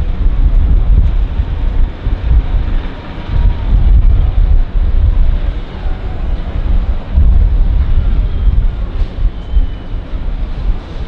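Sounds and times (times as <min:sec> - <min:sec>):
plane engine and propeller: 0:00.0 - 0:11.0
wind buffeting microphone: 0:00.0 - 0:11.0.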